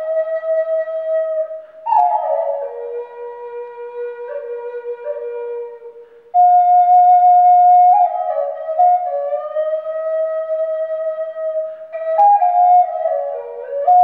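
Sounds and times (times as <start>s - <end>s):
wooden flute slow melody: 0.0s - 14.0s.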